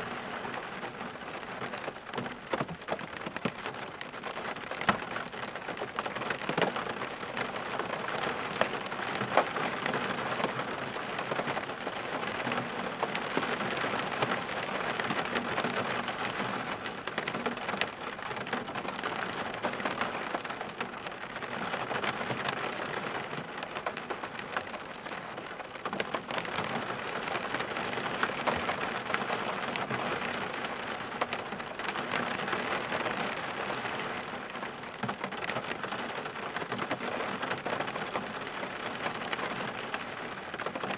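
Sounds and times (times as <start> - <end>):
sharp ticks of raindrops: 0.0 - 40.9
steady rain falling: 0.0 - 40.9.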